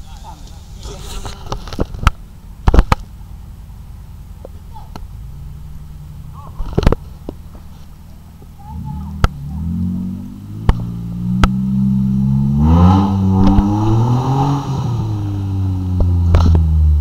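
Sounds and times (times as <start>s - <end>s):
car engine revving: 0.5s - 17.0s.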